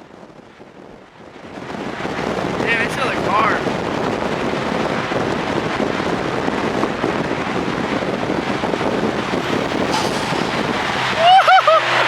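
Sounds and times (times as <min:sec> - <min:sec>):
wind and road noise from car: 0:00.0 - 0:12.0.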